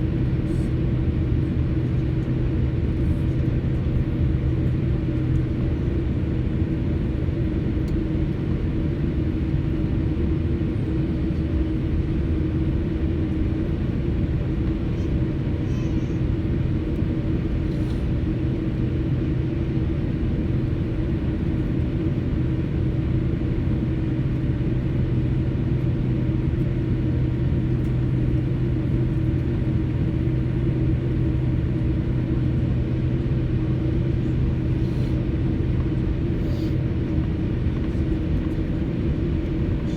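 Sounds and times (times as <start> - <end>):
jet engines idling in cabin: 0.0 - 39.9.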